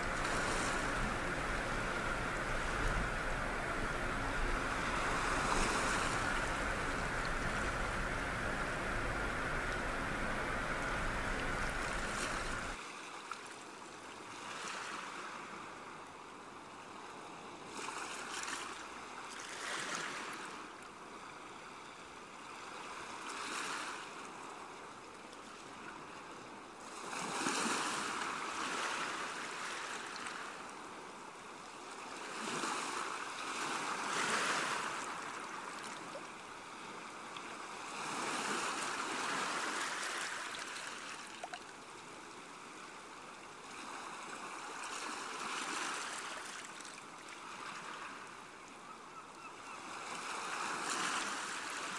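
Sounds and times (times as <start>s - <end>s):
rushing water with low rumble: 0.0s - 51.9s
waves breaking on a shore: 0.0s - 51.9s.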